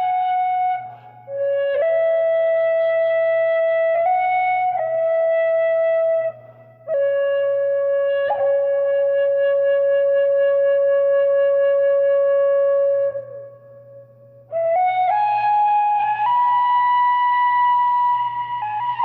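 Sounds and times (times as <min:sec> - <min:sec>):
tin whistle melody: 0:00.0 - 0:13.3, 0:14.5 - 0:19.0.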